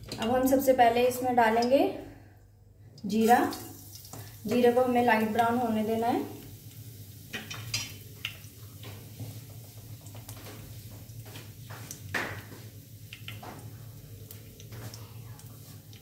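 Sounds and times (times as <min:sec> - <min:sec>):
seeds crackling in hot oil: 0:00.0 - 0:01.8, 0:03.0 - 0:16.0.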